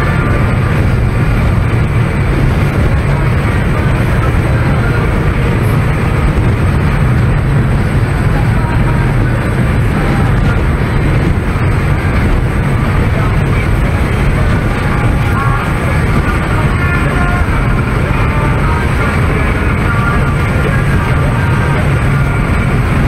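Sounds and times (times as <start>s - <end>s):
boat engines droning: 0.0s - 23.0s
wind buffeting microphone: 0.0s - 23.0s.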